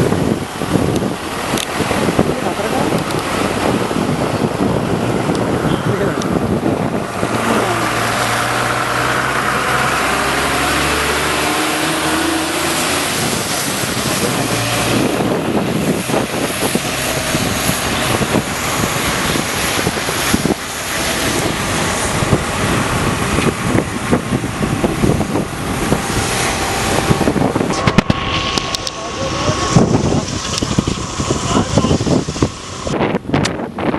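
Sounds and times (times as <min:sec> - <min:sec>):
moving water: 0:00.0 - 0:33.1
vehicle engine humming: 0:00.0 - 0:33.9
wind buffeting microphone: 0:00.0 - 0:33.9.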